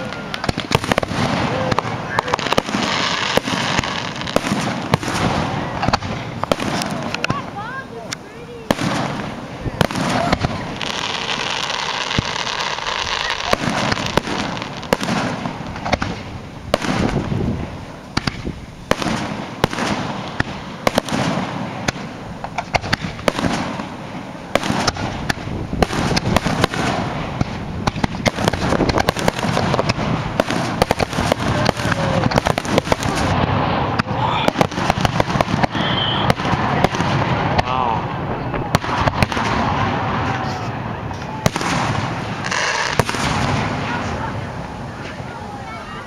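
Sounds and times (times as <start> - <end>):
fireworks bursting and crackling: 0.0 - 46.0.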